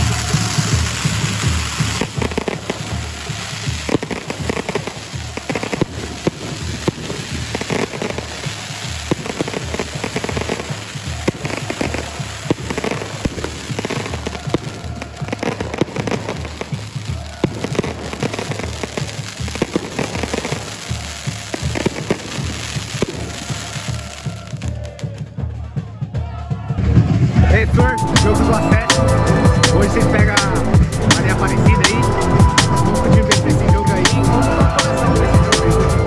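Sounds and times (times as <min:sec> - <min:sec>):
music with bass beat: 0:00.0 - 0:23.7, 0:24.5 - 0:36.0
firecrackers crackling: 0:00.0 - 0:25.7, 0:26.6 - 0:36.0.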